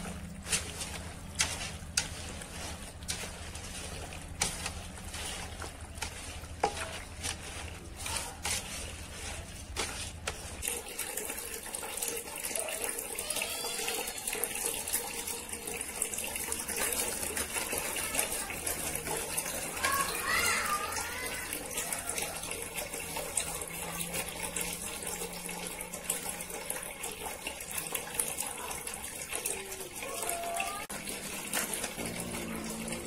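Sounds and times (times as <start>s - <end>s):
water running and splashing: 0.0s - 33.0s.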